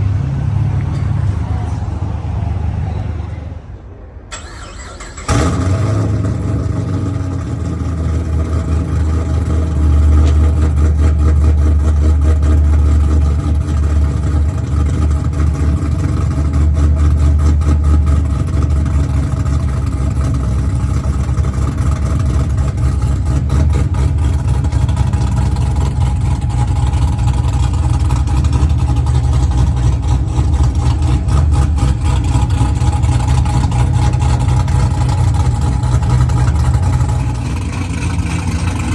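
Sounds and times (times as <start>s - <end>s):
car engine idling loudly: 5.2s - 38.9s.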